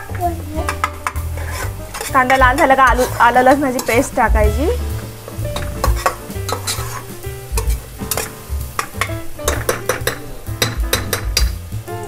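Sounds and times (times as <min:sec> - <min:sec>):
onions sizzling in oil: 0:00.0 - 0:12.0
spoon scraping metal pot: 0:00.6 - 0:04.2, 0:05.1 - 0:11.5.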